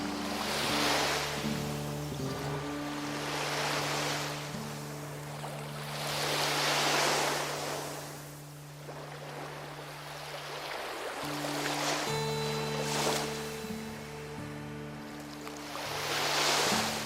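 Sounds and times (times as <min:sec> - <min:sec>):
low drone: 0:00.0 - 0:09.6, 0:11.3 - 0:17.0
sea waves washing ashore: 0:00.0 - 0:17.0.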